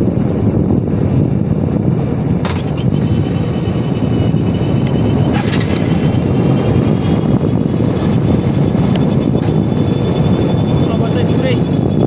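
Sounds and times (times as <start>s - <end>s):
wind rush over microphone: 0.0s - 12.0s
tyres rolling on rough road: 1.6s - 12.0s.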